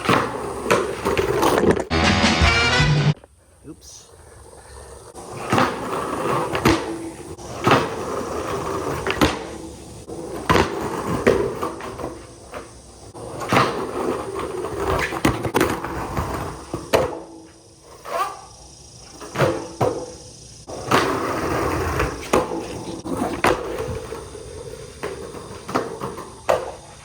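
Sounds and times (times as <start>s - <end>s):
skateboard clacking on ground: 0.0s - 2.4s, 4.8s - 27.0s
skateboard wheels rolling on concrete: 0.0s - 27.0s.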